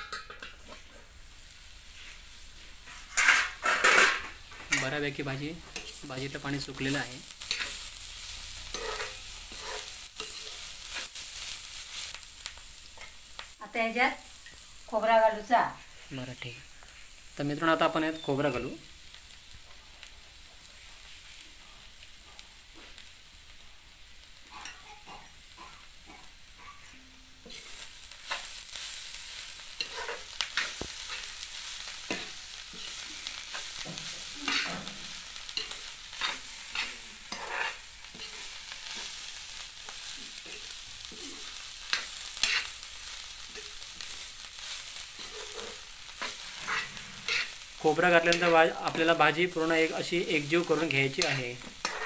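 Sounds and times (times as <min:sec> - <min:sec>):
spatula scraping in wok: 0:00.0 - 0:14.6, 0:24.4 - 0:52.0
food sizzling: 0:00.0 - 0:52.0.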